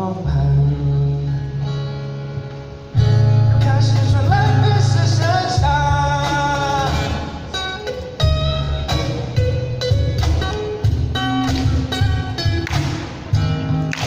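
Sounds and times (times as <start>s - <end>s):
karaoke song with guitar and bass: 0.0s - 14.0s.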